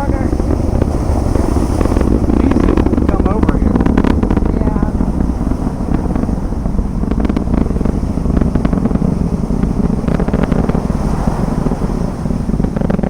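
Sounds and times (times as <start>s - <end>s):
distant rocket engine roar: 0.0s - 13.0s.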